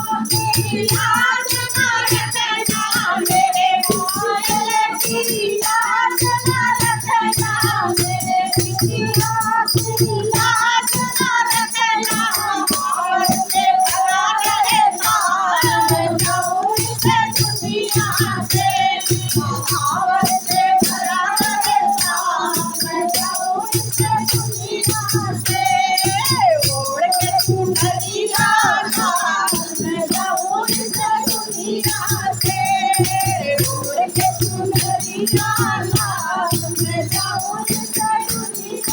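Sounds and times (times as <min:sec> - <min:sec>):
person singing devotional song: 0:00.0 - 0:38.9
rattling percussion: 0:00.0 - 0:38.9
steady drum beat: 0:00.0 - 0:38.9.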